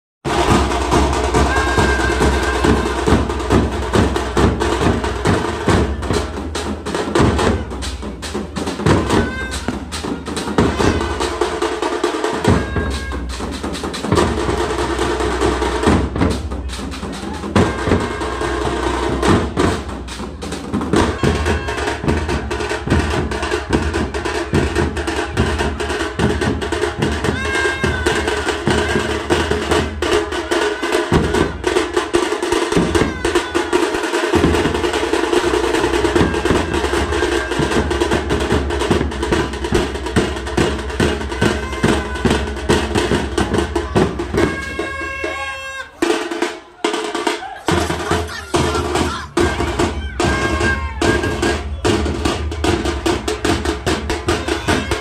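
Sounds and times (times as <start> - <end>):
street drum band playing: 0.2 - 55.0.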